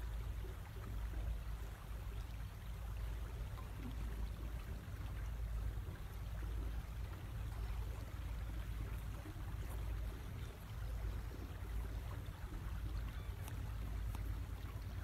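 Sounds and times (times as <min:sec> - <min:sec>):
low uneven rumble: 0:00.0 - 0:15.0
water washing along boat hull: 0:00.0 - 0:15.0.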